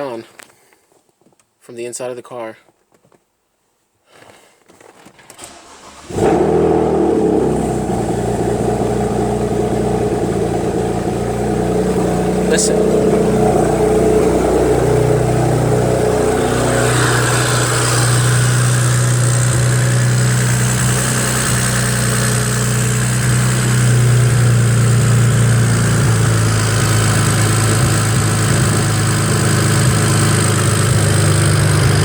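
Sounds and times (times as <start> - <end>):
car engine idling: 5.5 - 32.0.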